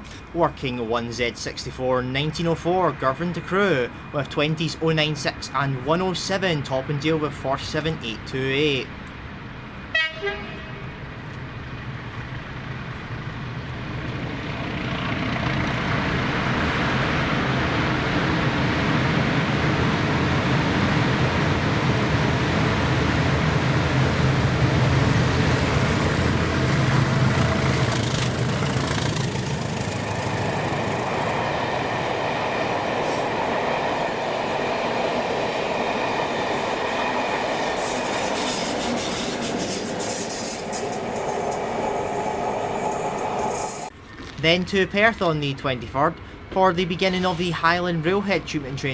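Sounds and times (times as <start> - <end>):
diesel locomotive engines: 0.0 - 48.9
train coaches rolling by: 0.0 - 48.9.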